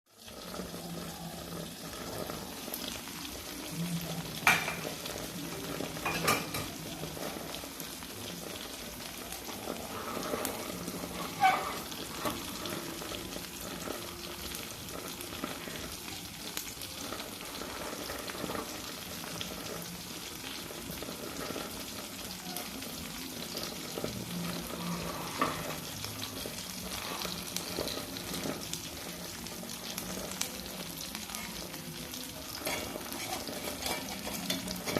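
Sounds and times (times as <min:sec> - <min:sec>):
batter sizzling in a hot pan: 0:00.1 - 0:34.9.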